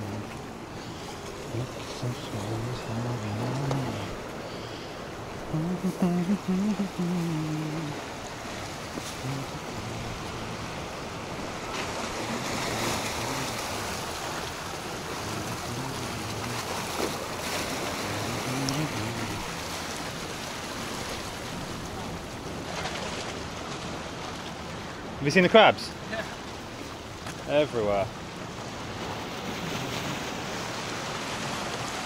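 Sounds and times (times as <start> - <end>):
waves breaking on rocks: 0.0 - 32.0.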